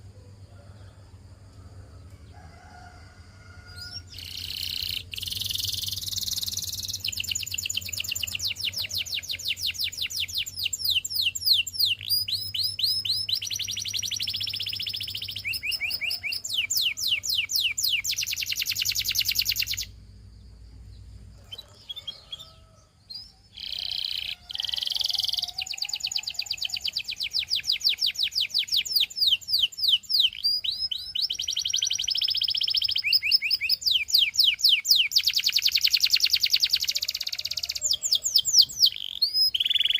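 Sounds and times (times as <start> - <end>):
canary singing trills: 3.7 - 20.1, 20.9 - 39.9.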